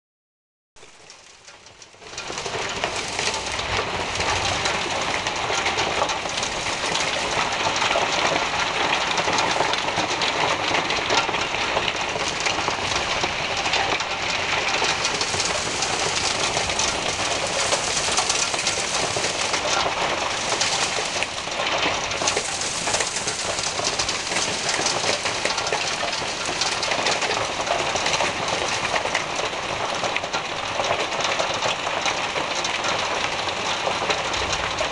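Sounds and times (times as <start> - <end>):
hailstones pelting down: 0.8 - 34.9.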